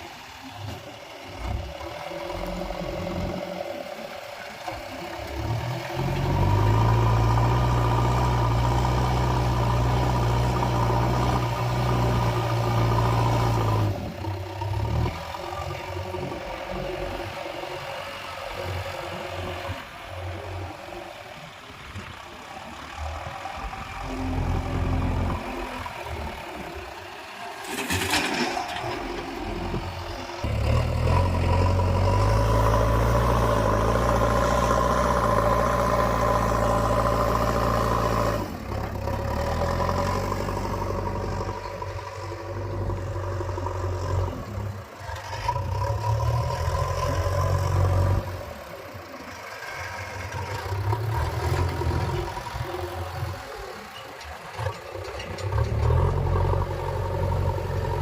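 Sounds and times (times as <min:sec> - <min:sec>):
diesel engine of backhoe loader: 0:00.0 - 0:58.0.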